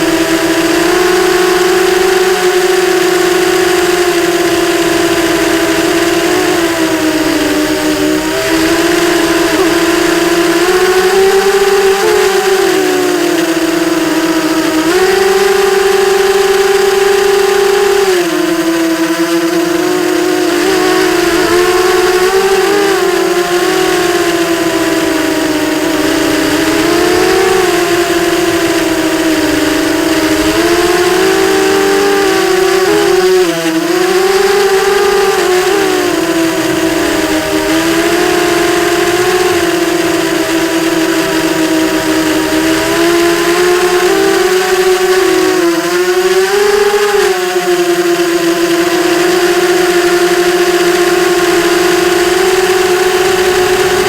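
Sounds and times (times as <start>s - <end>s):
quadcopter motors whining: 0.0s - 54.0s.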